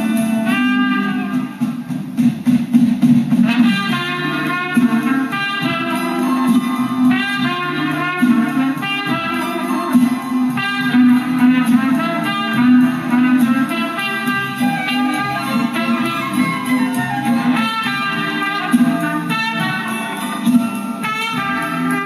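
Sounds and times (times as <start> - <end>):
music from a vinyl record: 0.0 - 22.0.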